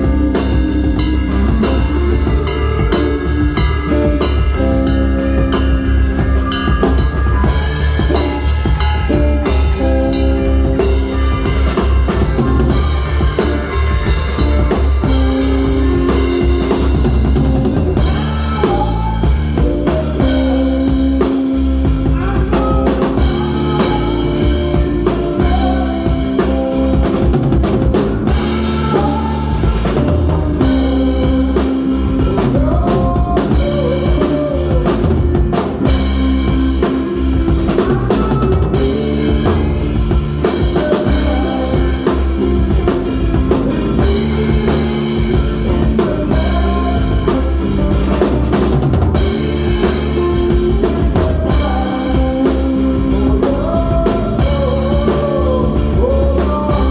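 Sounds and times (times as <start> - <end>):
bass guitar: 0.0 - 56.9
drum kit: 0.0 - 56.9
electric guitar: 0.0 - 56.9.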